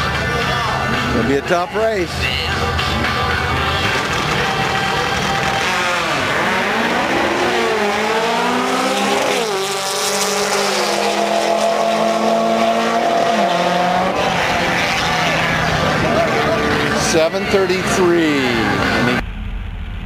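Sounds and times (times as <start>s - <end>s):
drag car engine at full throttle: 0.0s - 20.0s.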